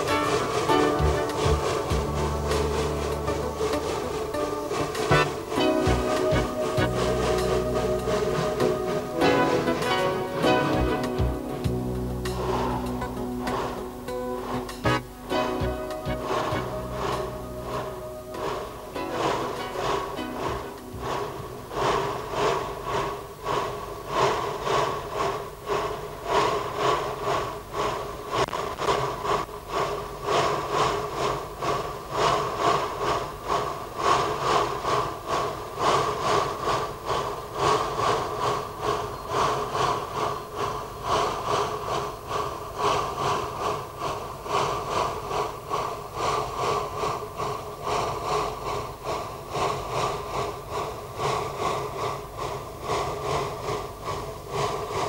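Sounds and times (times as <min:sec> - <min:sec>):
steam locomotive chuffing: 0:00.0 - 0:55.0.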